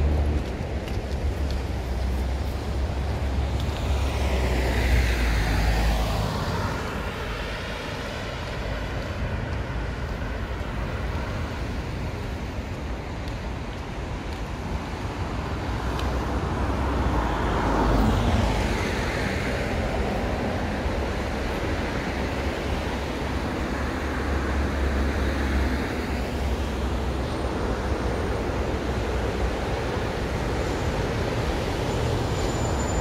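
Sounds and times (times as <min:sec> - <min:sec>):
cars passing by: 0:00.0 - 0:33.0.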